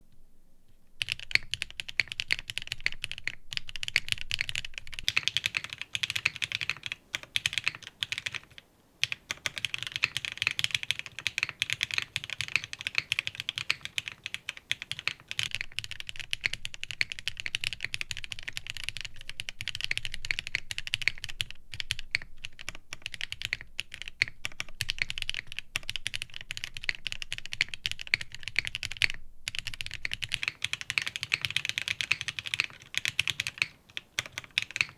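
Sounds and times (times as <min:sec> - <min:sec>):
typing on mechanical keyboard: 0:01.0 - 0:34.9.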